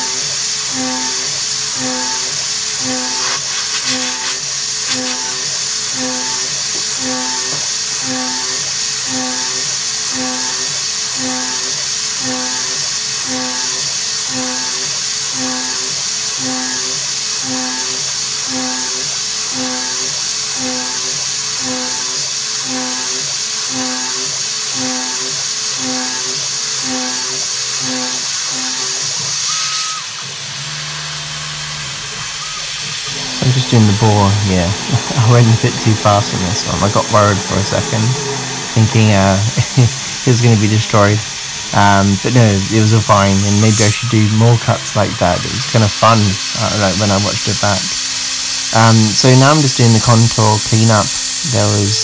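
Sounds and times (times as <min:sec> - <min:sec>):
cnc mill cutting metal: 0:00.0 - 0:52.0.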